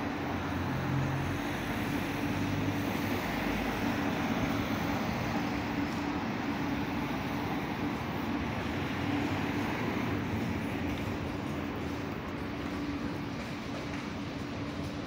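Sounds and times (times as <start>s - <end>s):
rushing background noise: 0.0s - 15.0s
low mechanical hum: 2.2s - 15.0s.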